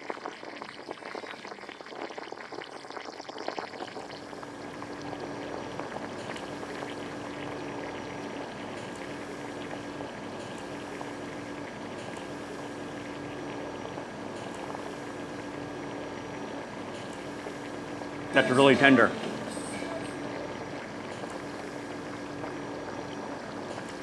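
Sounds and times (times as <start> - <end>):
broth bubbling in pot: 0.0 - 24.0.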